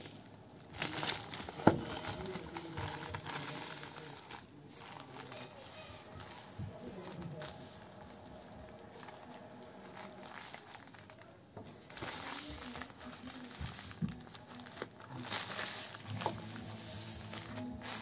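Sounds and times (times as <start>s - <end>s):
plastic mailer bag crinkling: 0.0s - 18.0s.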